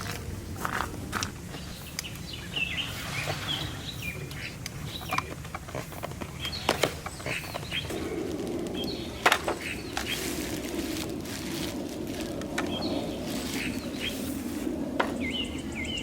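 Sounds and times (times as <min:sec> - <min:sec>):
small birds chirping: 0:00.4 - 0:16.0.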